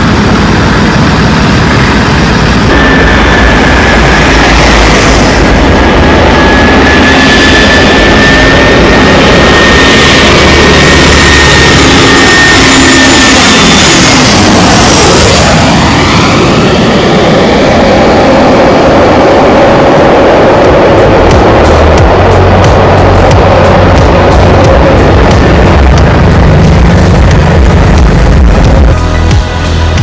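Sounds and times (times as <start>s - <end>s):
jet airliner passing: 0.0s - 29.2s
high jet whine: 0.0s - 30.0s.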